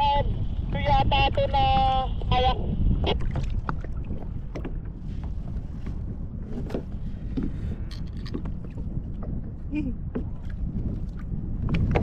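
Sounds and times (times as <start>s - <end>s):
water moving around kayak: 0.0s - 12.0s
wind rumbling on microphone: 0.0s - 12.0s.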